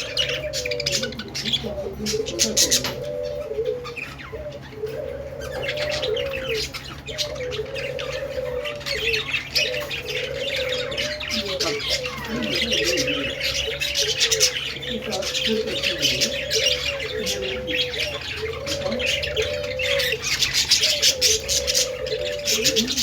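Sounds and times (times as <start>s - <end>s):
budgerigars chattering: 0.0s - 23.0s
low cooing warble: 0.0s - 23.0s.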